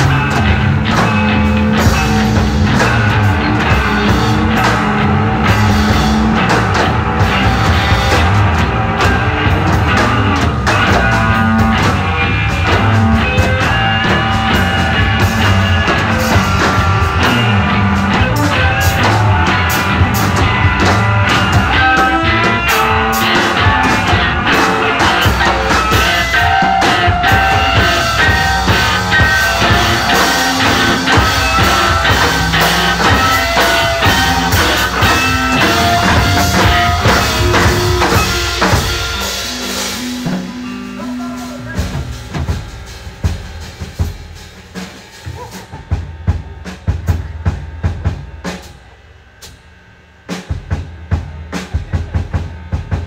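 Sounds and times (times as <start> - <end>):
distorted electric guitars: 0.0 - 53.0
drums pounding: 0.0 - 53.0.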